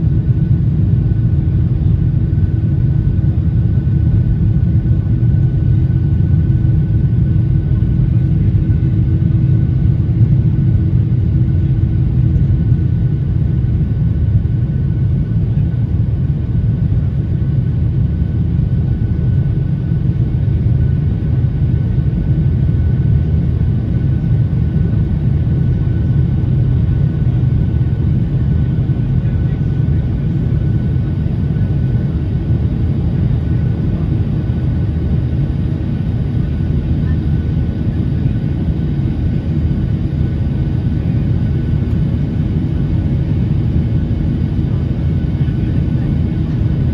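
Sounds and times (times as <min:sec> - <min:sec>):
jet engine and airflow rumble: 0:00.0 - 0:46.9.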